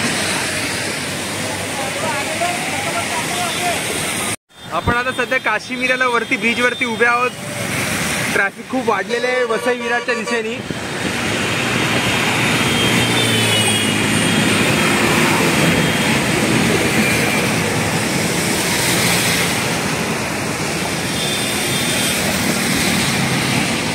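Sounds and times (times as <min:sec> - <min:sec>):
tyres hissing on wet road: 0:00.0 - 0:04.7, 0:07.2 - 0:09.4, 0:10.6 - 0:23.9.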